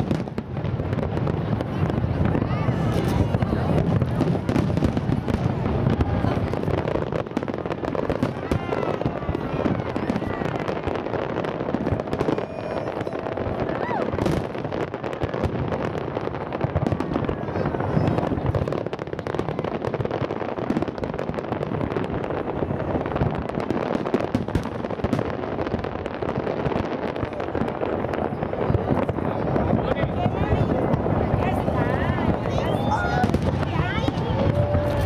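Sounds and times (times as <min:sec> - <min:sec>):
fireworks popping and crackling: 0:00.0 - 0:35.0.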